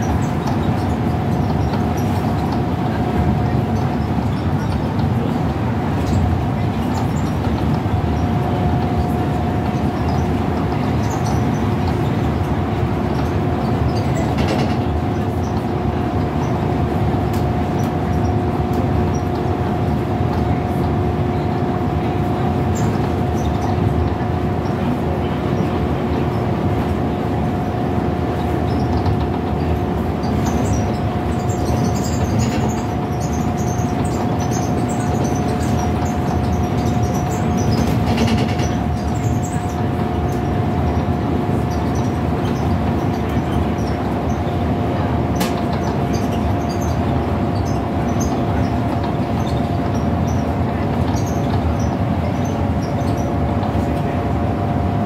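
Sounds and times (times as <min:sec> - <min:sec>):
bus engine drone: 0:00.0 - 0:55.0
road and tyre noise: 0:00.0 - 0:55.0.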